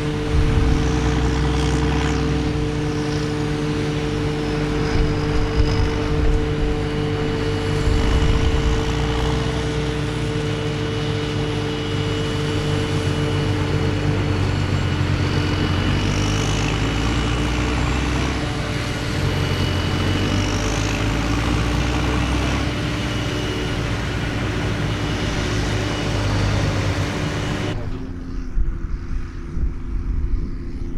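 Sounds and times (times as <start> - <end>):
constant machine whine: 0.0 - 30.9
diesel farm machinery running: 0.0 - 30.9.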